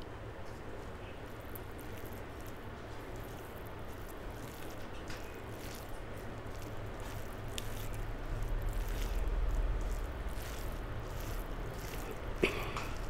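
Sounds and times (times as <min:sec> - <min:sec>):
fingers squishing rice: 0:00.5 - 0:13.0.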